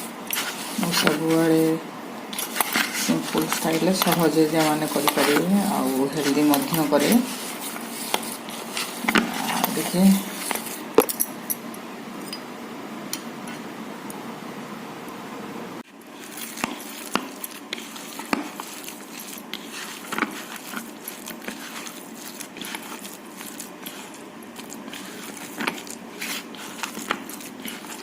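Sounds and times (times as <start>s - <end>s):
batter mixed by hand in bowl: 0.0s - 11.2s, 15.8s - 28.0s.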